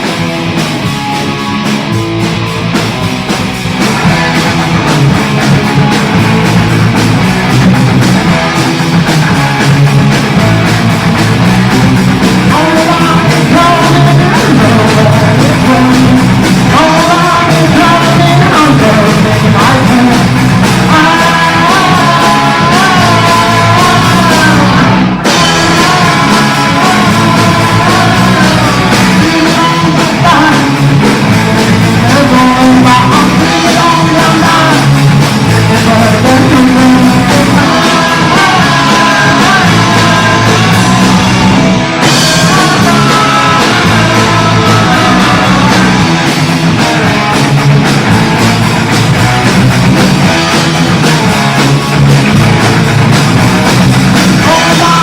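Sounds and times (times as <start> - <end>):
punk rock band with singing: 0.0 - 55.0.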